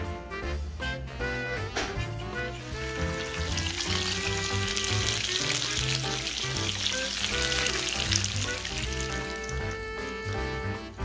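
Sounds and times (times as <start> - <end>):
background music: 0.0 - 11.0
sausages sizzling: 1.3 - 11.0.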